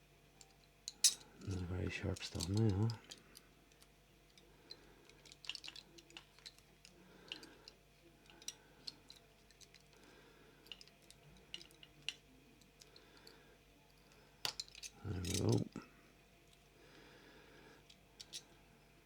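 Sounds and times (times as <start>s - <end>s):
knife clicking and scraping wire: 0.4s - 15.8s, 17.8s - 18.5s.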